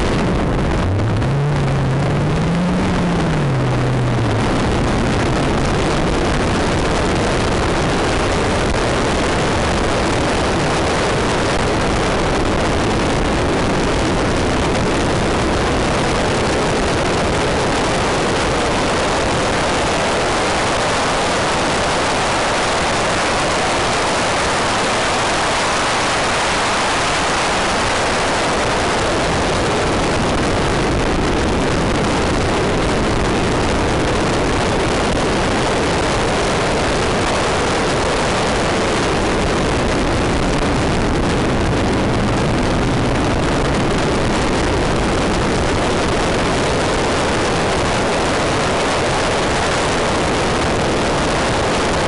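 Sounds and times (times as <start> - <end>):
rally car interior roar: 0.0 - 52.0.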